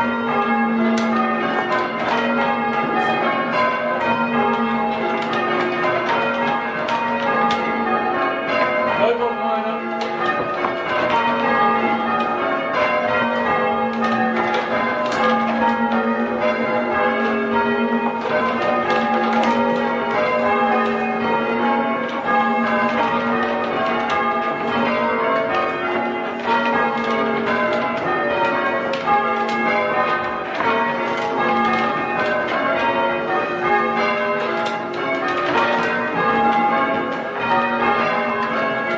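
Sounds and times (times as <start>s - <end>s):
church bells ringing changes: 0.0s - 38.9s.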